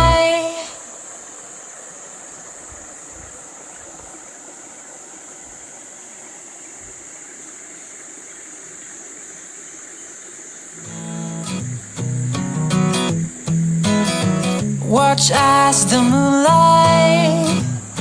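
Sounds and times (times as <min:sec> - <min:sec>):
water splashing down waterfall: 0:00.0 - 0:18.0.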